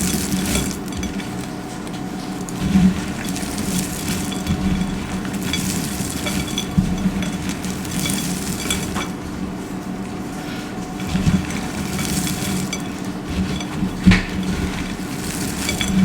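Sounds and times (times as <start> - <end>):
dry soap crunching: 0.0 - 16.0.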